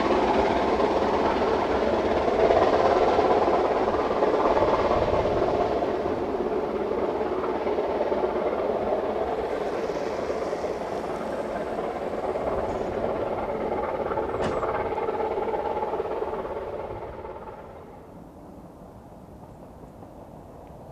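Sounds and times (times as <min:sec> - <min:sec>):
train running: 0:00.0 - 0:20.9.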